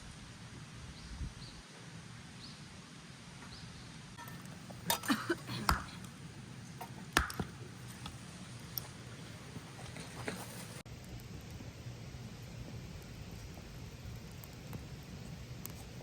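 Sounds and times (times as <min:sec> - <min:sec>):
low steady background noise: 0:00.0 - 0:16.0.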